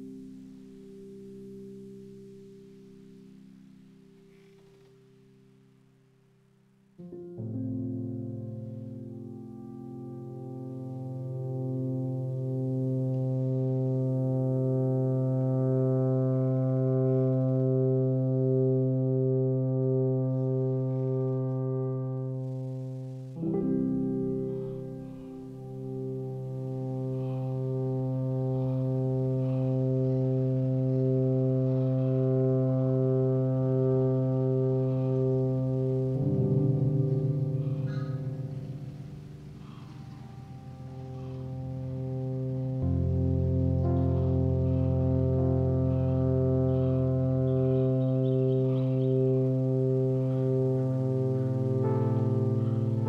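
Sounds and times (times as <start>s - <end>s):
ambient electronic drone: 0.0s - 53.0s.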